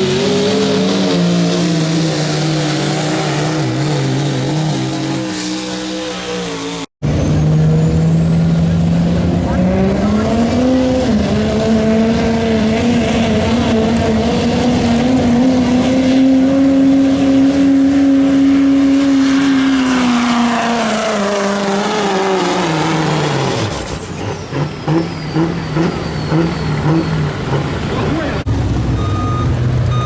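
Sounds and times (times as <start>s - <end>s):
diesel truck engine at full throttle: 0.0s - 30.0s.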